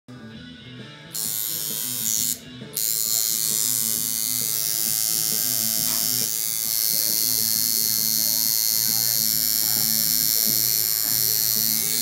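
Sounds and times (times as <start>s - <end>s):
tattoo machine buzzing: 1.1s - 12.0s.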